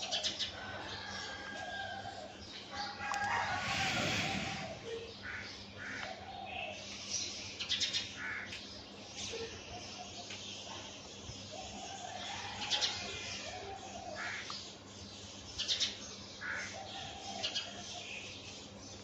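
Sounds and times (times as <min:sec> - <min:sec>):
birds calling and chirping: 0:00.0 - 0:19.0.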